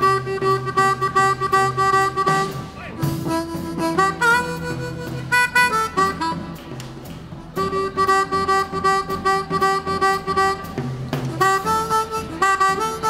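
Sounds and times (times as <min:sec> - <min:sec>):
harmonica playing: 0:00.0 - 0:06.6, 0:07.5 - 0:13.0.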